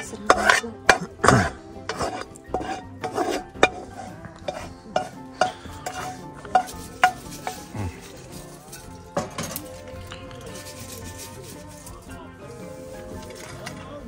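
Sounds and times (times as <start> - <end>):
metal spoon scraping a frying pan: 0.0 - 14.0.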